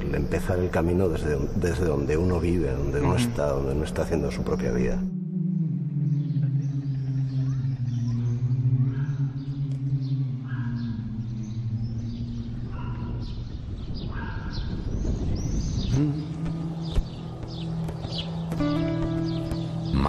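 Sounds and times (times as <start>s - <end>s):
small birds chirping: 0.0s - 20.0s
steady low drone: 0.0s - 20.0s.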